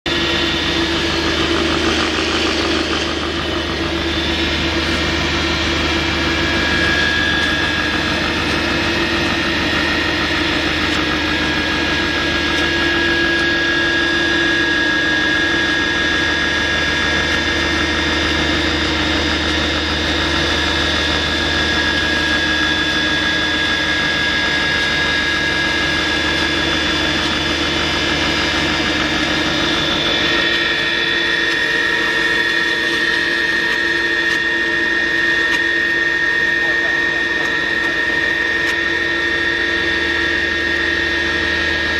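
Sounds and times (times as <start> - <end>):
grinding mill hum: 0.1 - 41.9
whining tones: 0.1 - 41.9.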